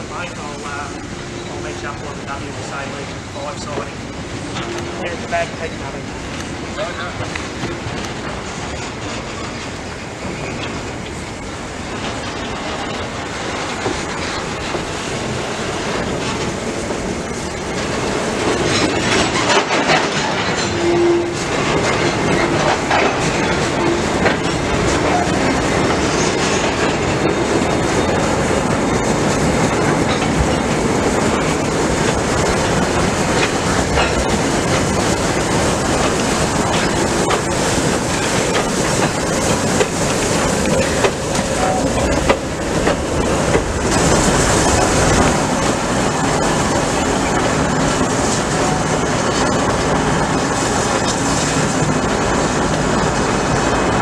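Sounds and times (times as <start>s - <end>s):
train wheels clattering over rail joints: 0.2s - 54.0s.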